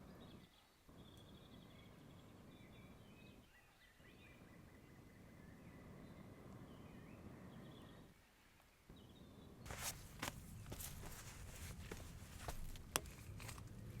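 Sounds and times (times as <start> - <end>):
faint bird chirps and trills: 0.0 - 12.6
low background noise: 0.0 - 14.0.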